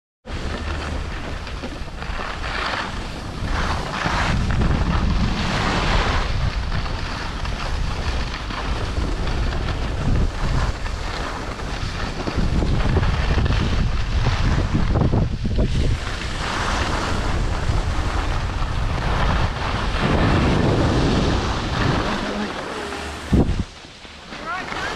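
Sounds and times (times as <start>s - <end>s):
skis scraping on snow: 0.3s - 24.9s
wind buffeting microphone: 0.3s - 24.9s.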